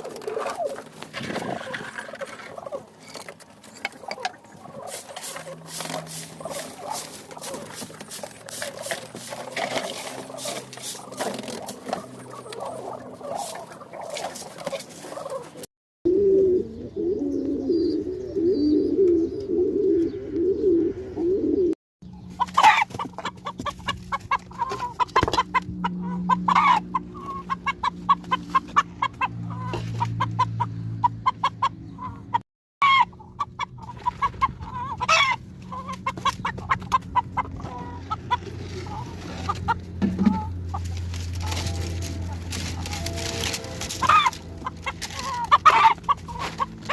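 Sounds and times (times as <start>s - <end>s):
chickens clucking: 0.0s - 15.7s, 16.5s - 46.9s.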